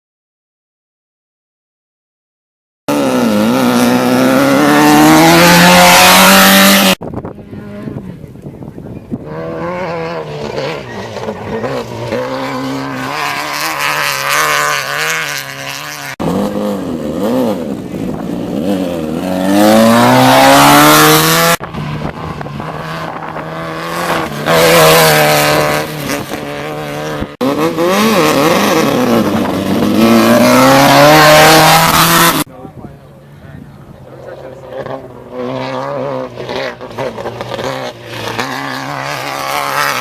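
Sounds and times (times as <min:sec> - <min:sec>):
race car engines revving and passing: 0:02.9 - 0:40.0.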